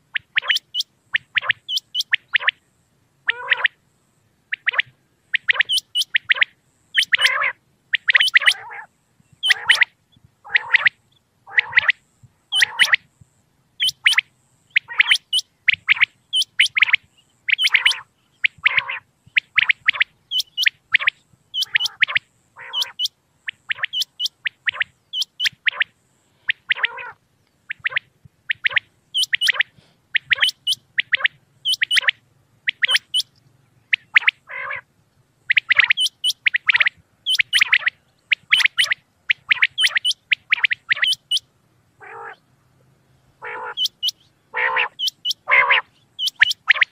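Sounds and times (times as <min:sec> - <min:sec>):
quail calling: 0:00.0 - 0:02.6, 0:03.2 - 0:03.8, 0:04.5 - 0:13.1, 0:13.8 - 0:42.4, 0:43.3 - 0:46.9.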